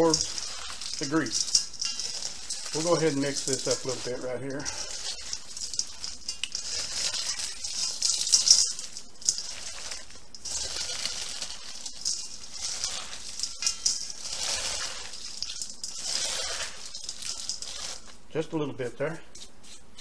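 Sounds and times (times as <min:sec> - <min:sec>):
hands squishing meat mixture: 0:00.0 - 0:18.3.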